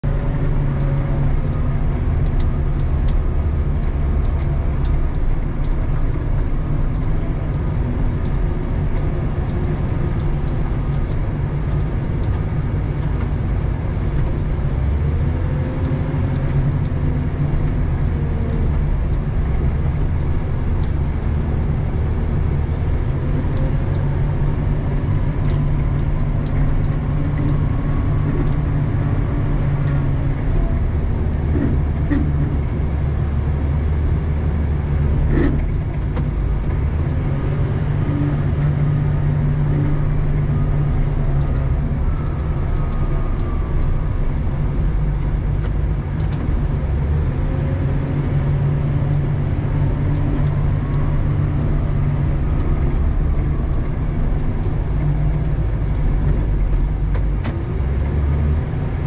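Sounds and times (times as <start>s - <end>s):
diesel engine from inside cab: 0.0s - 59.0s.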